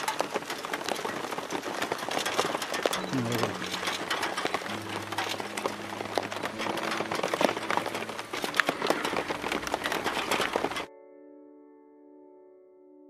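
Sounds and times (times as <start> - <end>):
heavy rain on hard surface: 0.0 - 10.9.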